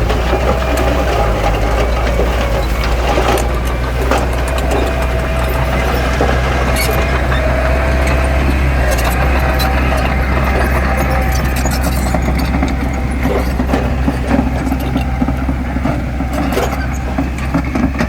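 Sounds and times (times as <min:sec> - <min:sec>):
diesel engine droning: 0:00.0 - 0:18.0
light clicks and clanks: 0:00.0 - 0:18.0.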